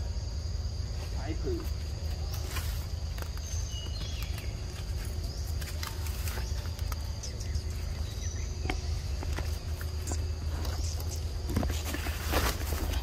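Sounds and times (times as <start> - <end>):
insects droning: 0.0 - 13.0
rustles and clicks in leaf litter: 1.0 - 13.0.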